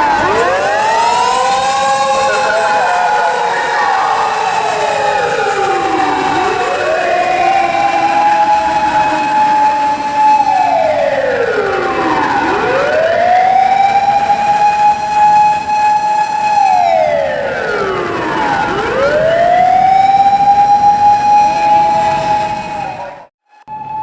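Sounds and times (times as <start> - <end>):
fire engine siren wailing: 0.0 - 24.0.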